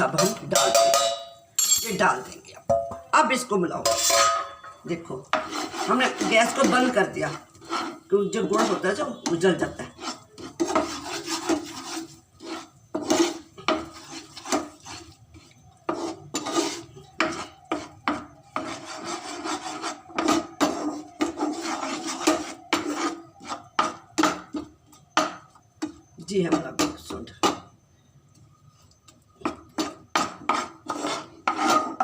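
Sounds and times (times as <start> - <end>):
utensil scraping sticky mixture in pan: 0.0 - 1.0, 3.8 - 32.0.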